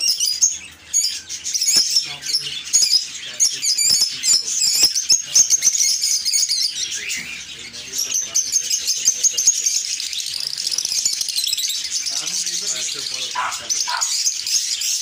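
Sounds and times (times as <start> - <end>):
lovebirds chirping and chattering: 0.0 - 15.0.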